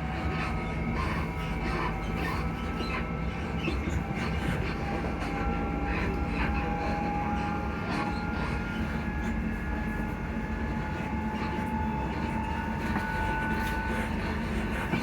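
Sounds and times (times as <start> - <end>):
low rumble of running train: 0.0 - 15.0.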